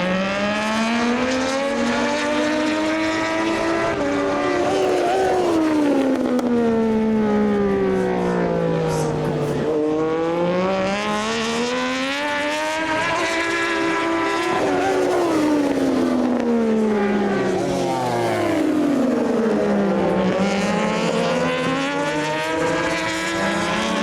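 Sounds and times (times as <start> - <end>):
racing motorcycle engine revving: 0.0 - 24.0.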